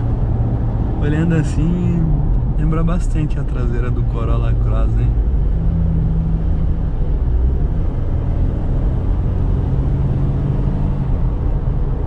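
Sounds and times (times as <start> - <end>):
diesel engine hum in cabin: 0.0 - 12.0
road noise: 0.0 - 12.0.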